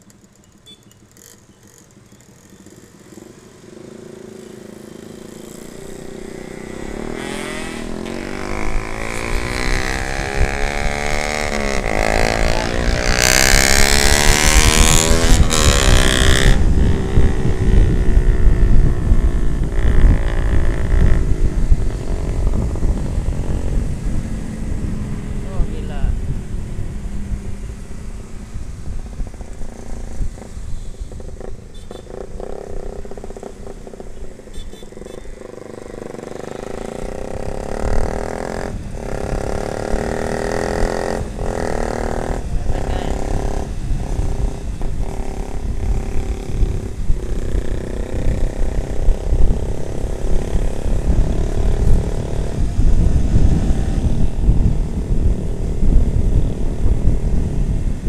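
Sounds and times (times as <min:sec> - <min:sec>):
motorcycle engine running: 0:00.0 - 0:58.0
passing motorcycle engine droning: 0:00.0 - 0:58.0
wind buffeting microphone: 0:05.2 - 0:58.0.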